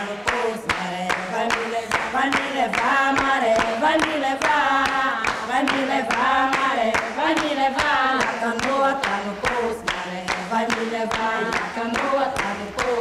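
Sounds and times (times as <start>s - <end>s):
rhythmic hand clapping: 0.0s - 13.0s
voices singing unaccompanied: 0.0s - 13.0s.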